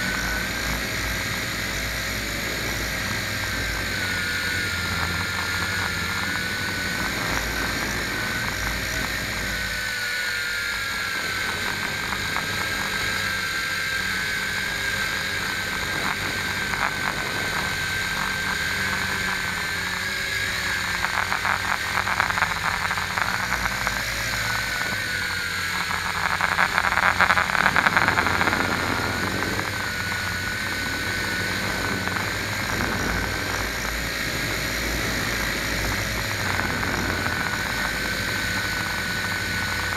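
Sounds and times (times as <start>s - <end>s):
camera drone propellers whining: 0.0s - 39.9s.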